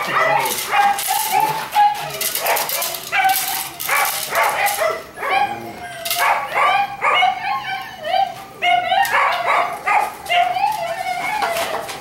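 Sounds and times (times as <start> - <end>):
puppy barking and yipping: 0.0 - 11.9.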